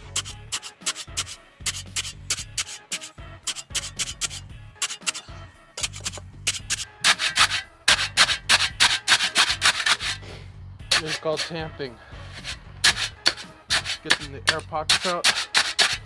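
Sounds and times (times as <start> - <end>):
scraping and jabbing in wet concrete: 0.0 - 16.0.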